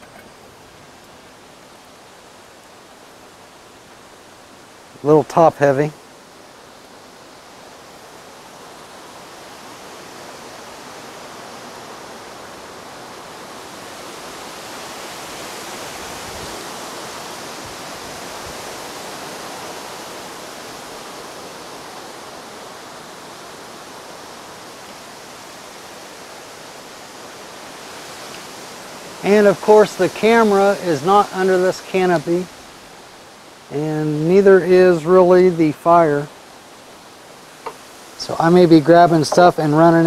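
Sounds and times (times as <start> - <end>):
strong wind gusting through trees: 0.0 - 40.0.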